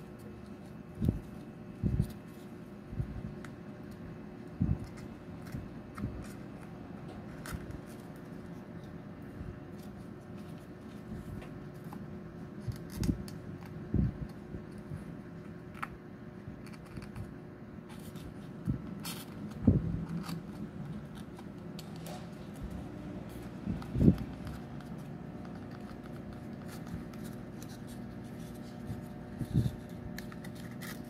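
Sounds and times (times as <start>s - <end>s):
paper card rustling and creasing: 0.0s - 31.0s.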